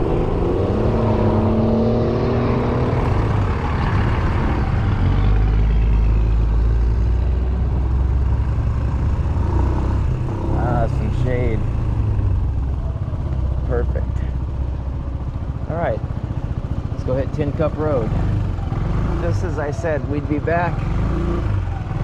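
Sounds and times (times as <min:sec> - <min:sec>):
scooter engine running: 0:00.1 - 0:22.0.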